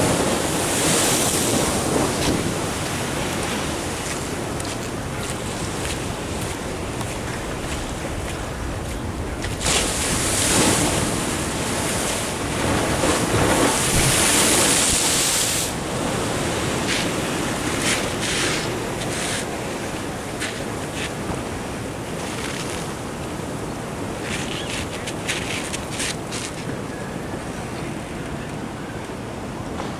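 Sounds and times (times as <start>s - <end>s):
wind buffeting microphone: 0.0s - 27.6s
ocean surf rushing: 0.0s - 29.9s.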